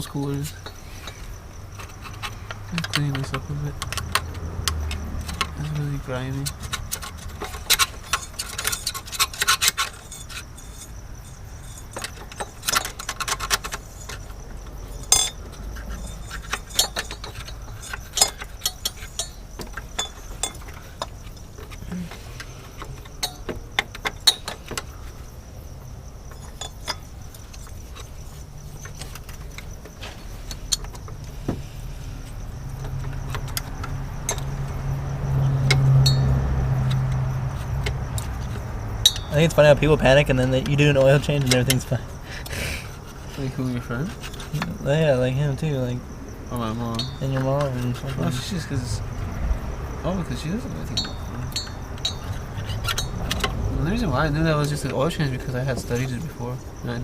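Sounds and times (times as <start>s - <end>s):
metal engine parts clinking: 0.0s - 49.1s, 49.9s - 57.0s.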